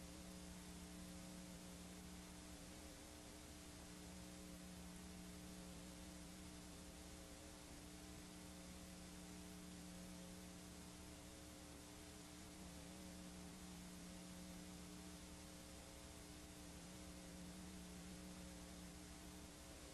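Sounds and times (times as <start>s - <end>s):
faint electrical hum: 0.0s - 19.9s
light hiss: 0.0s - 19.9s.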